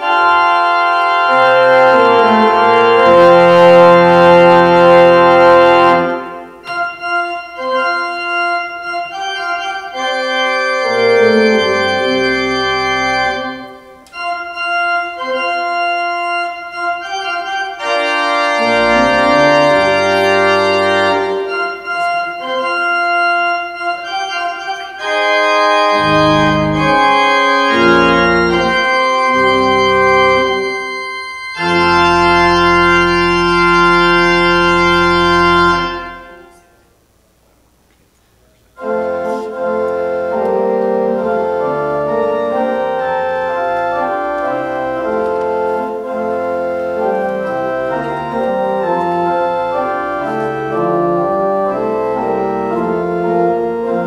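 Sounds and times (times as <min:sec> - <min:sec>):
deep organ pedal bass notes: 0:00.0 - 0:36.6, 0:38.8 - 0:54.0
church organ chords: 0:00.0 - 0:37.7, 0:38.7 - 0:54.0.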